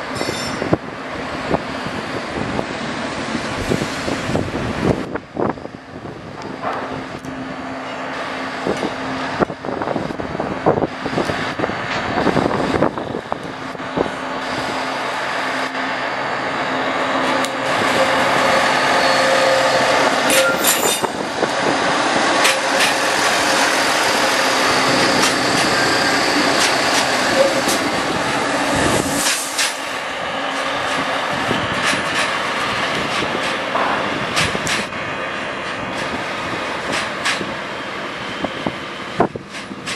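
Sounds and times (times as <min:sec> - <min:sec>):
diesel railcar engine running: 0:00.0 - 0:39.9.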